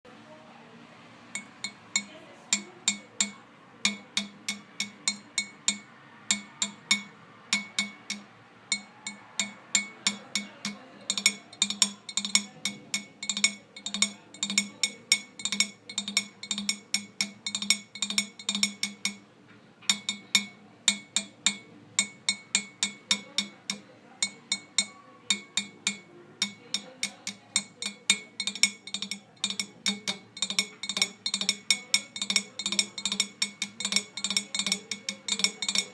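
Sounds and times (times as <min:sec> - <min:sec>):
clinking percussion taps: 0:01.4 - 0:19.2, 0:19.8 - 0:35.9.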